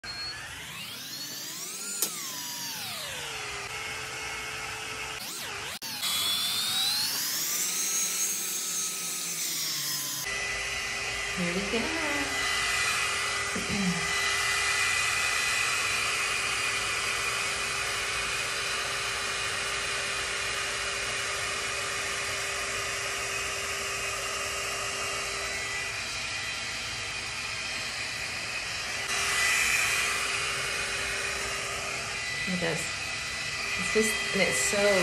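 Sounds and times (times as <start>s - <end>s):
hot air styler blowing: 0.3s - 35.0s.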